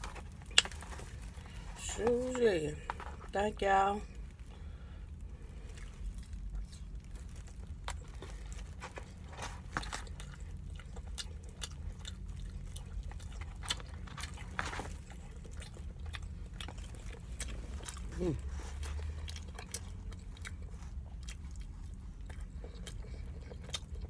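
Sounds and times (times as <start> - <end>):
chewing and lip-smacking: 0.0 - 3.2, 5.5 - 24.0.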